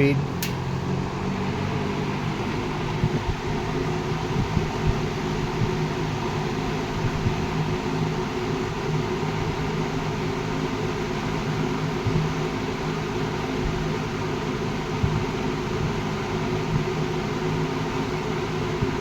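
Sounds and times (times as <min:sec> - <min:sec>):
box fan running: 0:00.0 - 0:19.0
low steady motor hum: 0:00.0 - 0:19.0.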